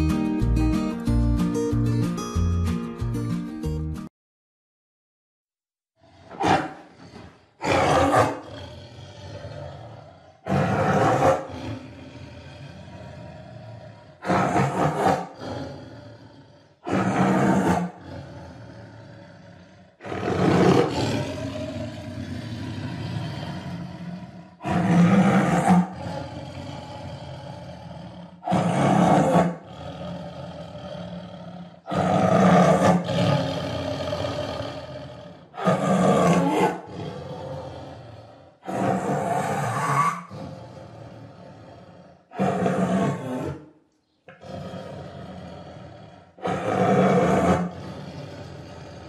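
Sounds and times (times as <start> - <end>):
tiger roaring: 6.0 - 43.7, 44.3 - 49.0.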